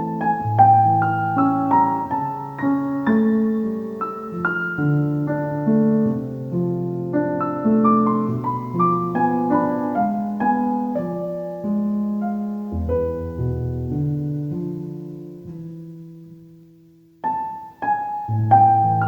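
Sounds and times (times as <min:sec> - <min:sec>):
soft slow piano: 0:00.0 - 0:19.0.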